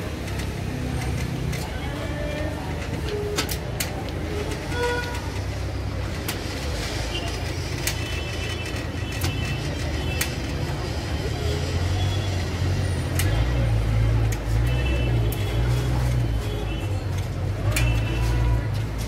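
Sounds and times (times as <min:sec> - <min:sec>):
faint voices: 0:00.0 - 0:19.0
vehicle engines rumbling: 0:00.0 - 0:19.0.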